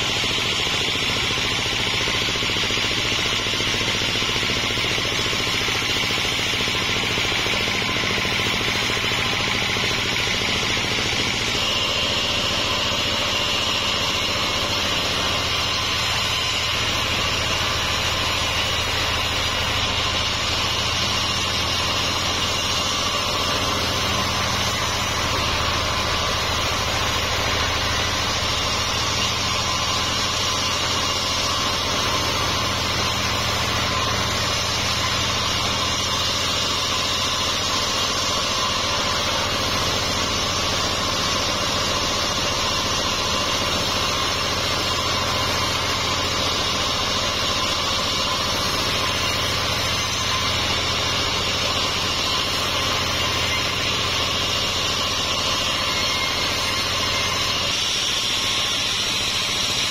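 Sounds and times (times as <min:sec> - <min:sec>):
band sawmill cutting log: 0:00.0 - 0:59.9.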